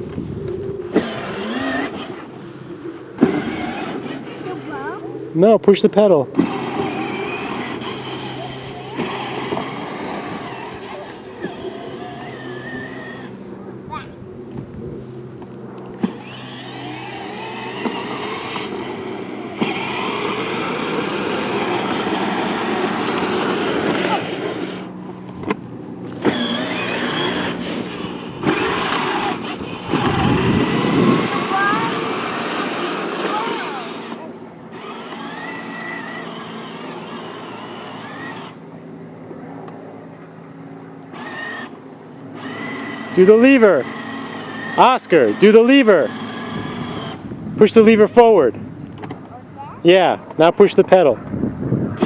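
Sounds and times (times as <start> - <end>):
electric toy motor humming: 0.0 - 39.1, 41.0 - 48.4
wheels rolling: 0.0 - 52.0.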